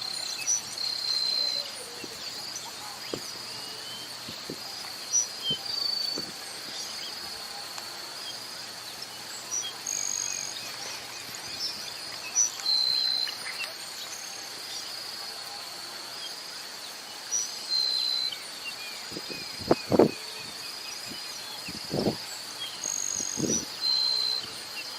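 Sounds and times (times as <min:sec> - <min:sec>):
high insect drone: 0:00.0 - 0:24.9.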